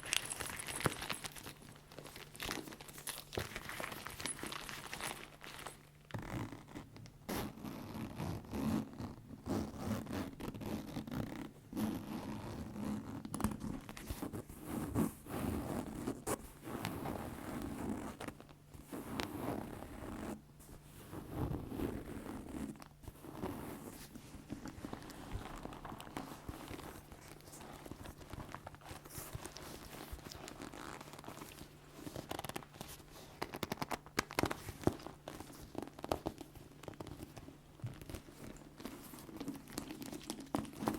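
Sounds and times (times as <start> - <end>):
leather creaking and rubbing: 0.0 - 20.4, 21.0 - 40.9.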